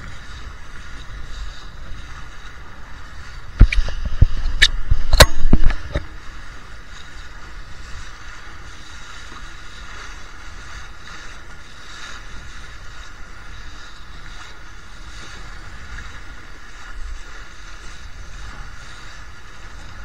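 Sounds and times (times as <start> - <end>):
rush of wind and water: 0.0 - 20.0.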